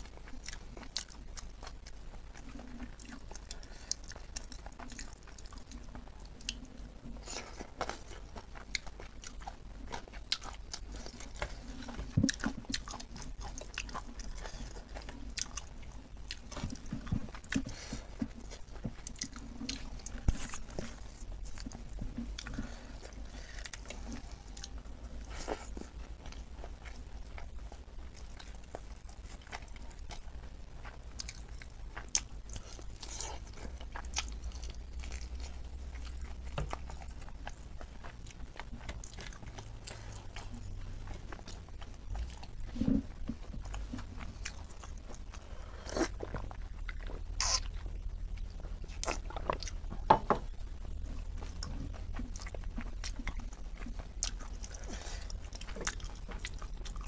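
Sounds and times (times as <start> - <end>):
chewing and biting meat: 0.0 - 57.0.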